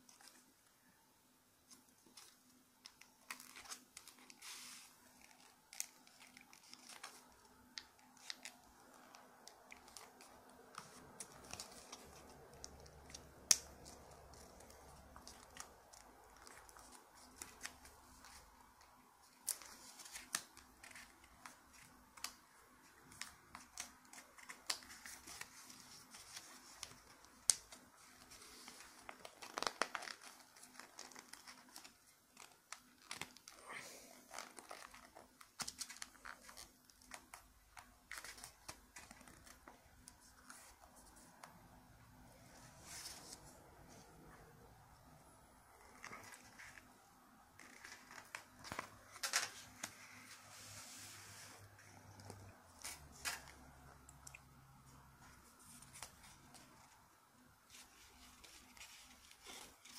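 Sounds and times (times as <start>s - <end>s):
paper crinkling and crackling: 1.6s - 41.7s, 42.4s - 59.9s.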